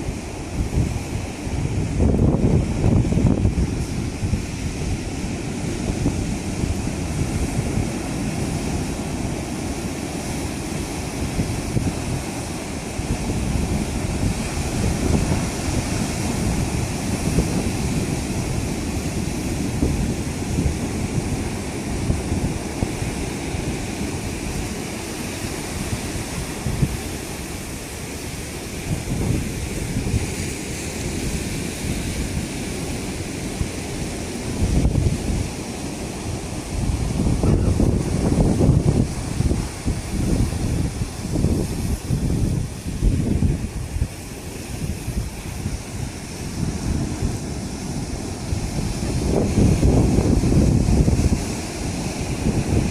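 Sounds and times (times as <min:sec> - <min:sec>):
ocean surf breaking on concrete: 0:00.0 - 0:52.9
wind buffeting microphone: 0:00.0 - 0:52.9.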